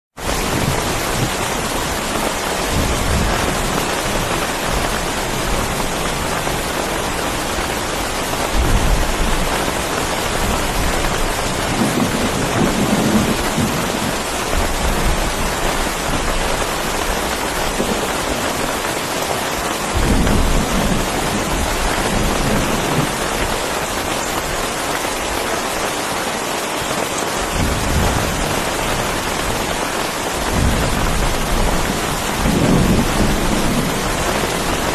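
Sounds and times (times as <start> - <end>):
heavy rain: 0.1 - 34.9
thunder rumbling: 0.2 - 25.8, 27.4 - 34.9.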